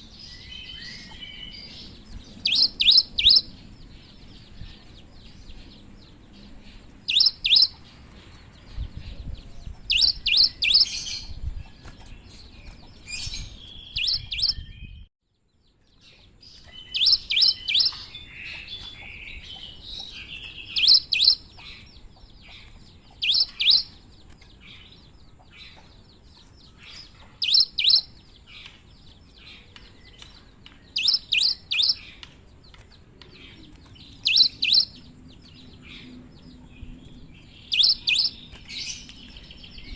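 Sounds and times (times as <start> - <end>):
soft bird twittering: 0.0 - 39.9.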